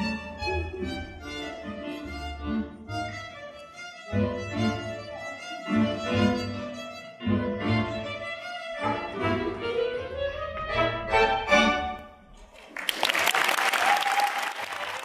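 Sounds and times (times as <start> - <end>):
violin playing a tune: 0.0 - 12.3.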